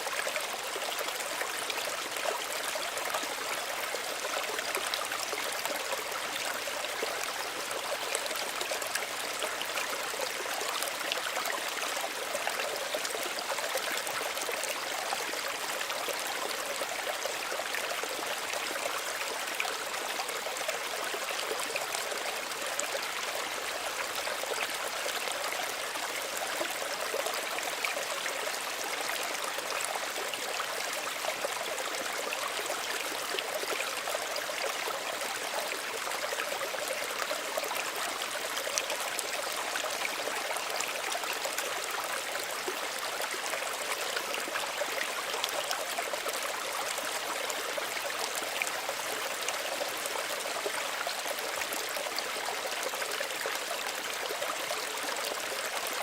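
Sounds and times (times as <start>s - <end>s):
stream trickling and bubbling: 0.0s - 56.0s.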